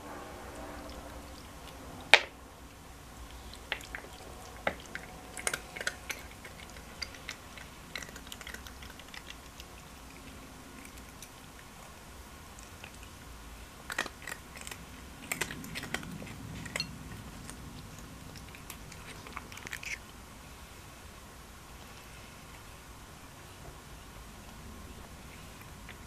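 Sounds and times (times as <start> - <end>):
cat chewing crunchy food: 0.2 - 26.0.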